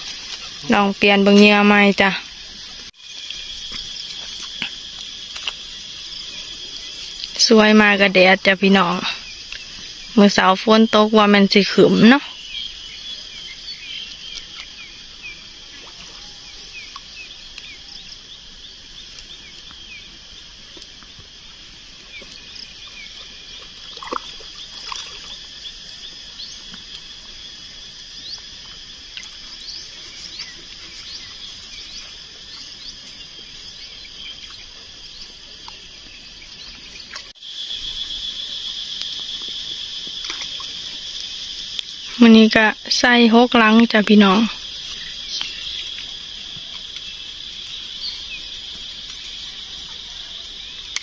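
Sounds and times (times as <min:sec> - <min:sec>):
insects buzzing: 0:00.0 - 0:51.0.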